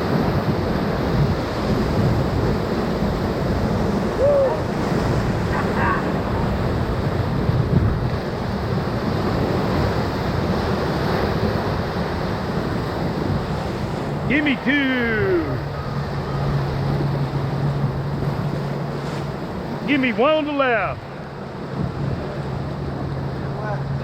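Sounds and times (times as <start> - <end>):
river rapid rushing: 0.0 - 24.0
wind buffeting microphone: 0.0 - 24.0.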